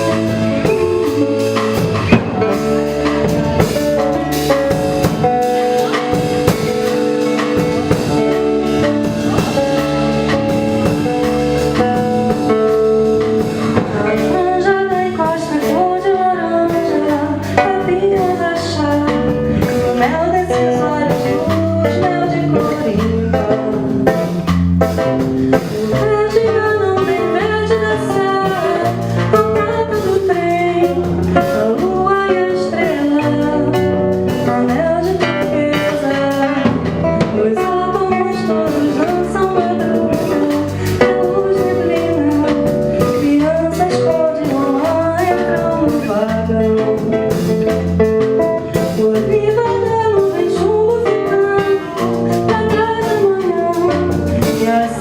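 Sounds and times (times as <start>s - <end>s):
acoustic guitar: 0.0s - 55.0s
bass guitar: 0.0s - 55.0s
drum kit: 0.0s - 55.0s
person singing: 0.0s - 55.0s.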